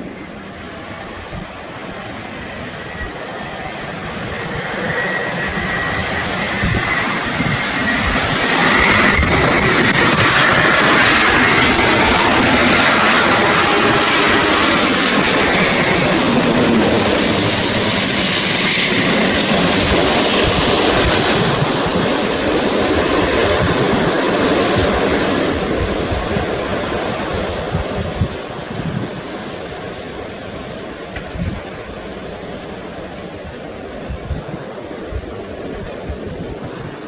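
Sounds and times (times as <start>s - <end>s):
jet airliner passing overhead: 0.0s - 37.0s.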